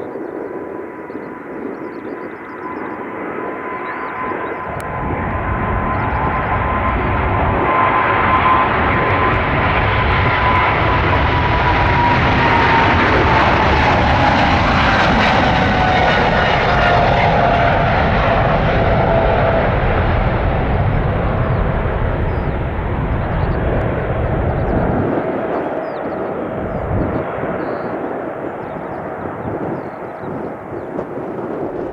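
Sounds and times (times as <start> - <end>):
jet airliner taking off: 0.0 - 31.9.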